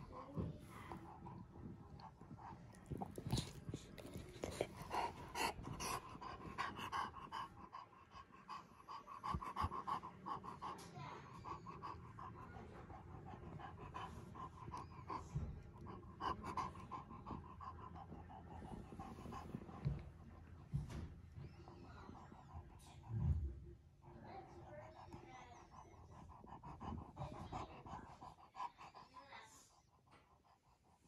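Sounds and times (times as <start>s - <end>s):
dog panting heavily: 0.0s - 31.0s.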